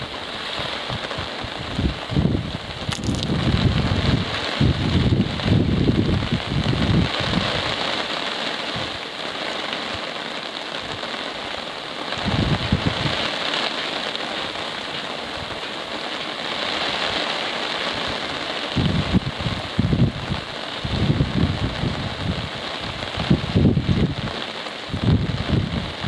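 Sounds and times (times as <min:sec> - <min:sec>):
wind gusts buffeting microphone: 0:00.0 - 0:09.1, 0:10.8 - 0:26.0
steady rain falling: 0:00.0 - 0:26.0.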